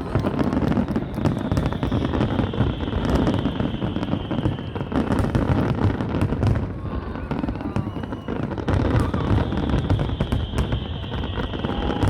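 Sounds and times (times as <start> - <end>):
fireworks bangs and crackles: 0.0 - 12.0
high steady whistle: 0.0 - 12.0.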